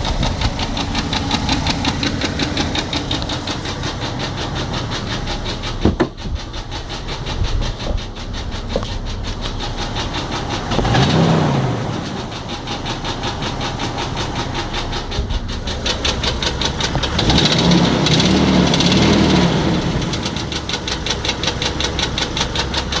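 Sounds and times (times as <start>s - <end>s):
knocking car engine revving: 0.0s - 23.0s.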